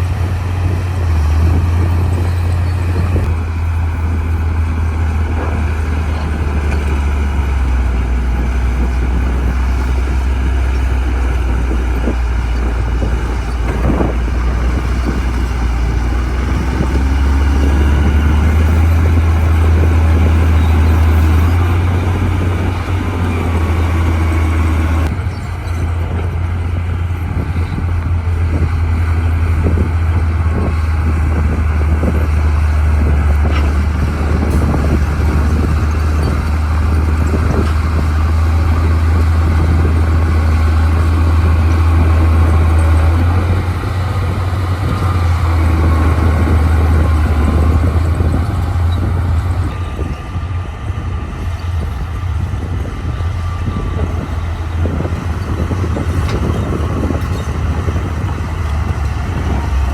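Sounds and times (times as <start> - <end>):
bulldozer diesel engine drone: 0.0 - 59.9.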